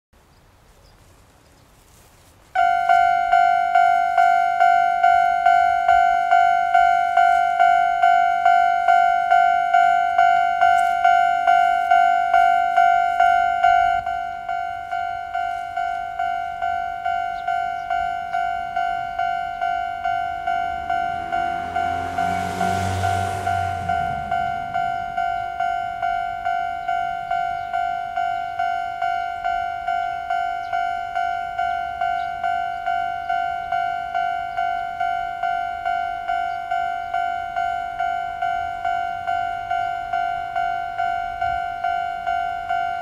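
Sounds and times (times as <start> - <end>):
level crossing electronic bell: 2.6 - 43.0.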